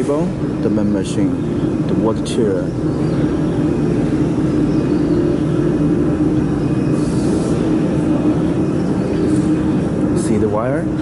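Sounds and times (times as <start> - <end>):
workshop machinery droning: 0.0 - 11.0.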